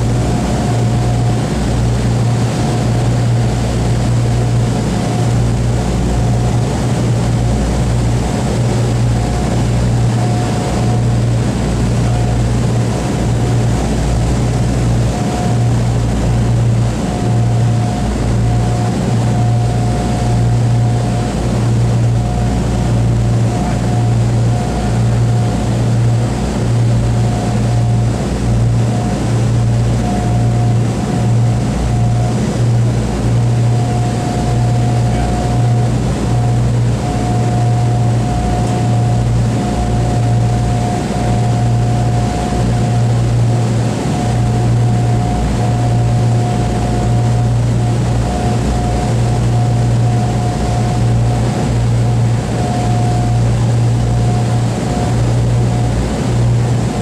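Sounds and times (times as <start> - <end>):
piston aircraft engines droning: 0.0 - 57.0.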